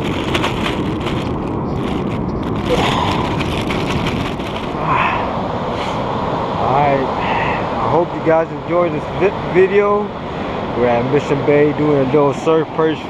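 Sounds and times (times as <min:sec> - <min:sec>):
wind on microphone: 0:00.0 - 0:12.7
surf rushing: 0:00.0 - 0:13.0.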